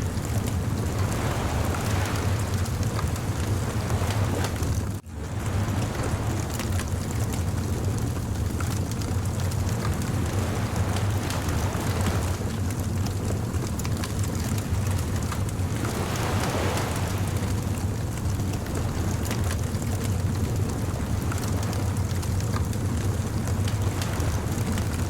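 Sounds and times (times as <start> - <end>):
bonfire crackling and popping: 0.0 - 25.0
surf rumble: 0.0 - 25.0
wave washing in: 0.0 - 25.0.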